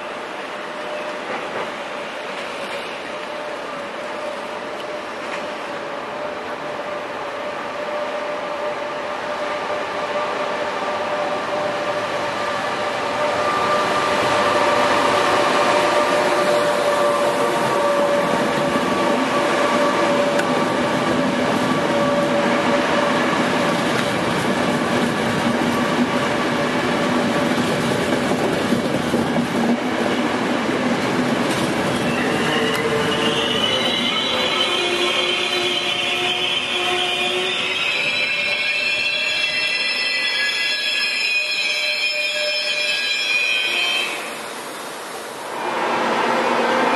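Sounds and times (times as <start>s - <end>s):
train wheels rolling on rails: 0.0s - 46.9s.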